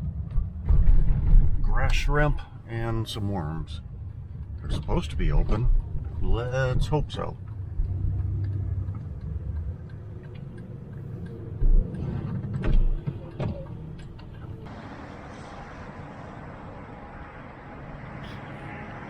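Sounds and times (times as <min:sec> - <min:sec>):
car cabin road rumble: 0:00.0 - 0:17.3.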